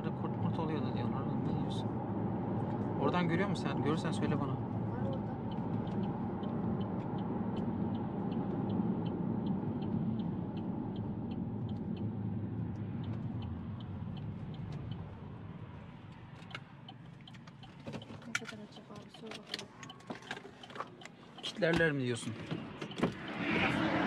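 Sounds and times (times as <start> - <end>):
engine and tyre rumble: 0.0 - 24.0
light regular ticking: 3.5 - 23.0.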